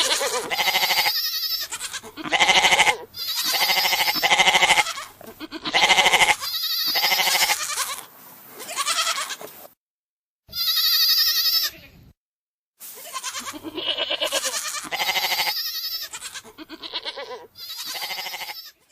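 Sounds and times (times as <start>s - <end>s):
goats bleating: 0.0s - 9.5s, 10.5s - 12.0s, 12.9s - 18.9s.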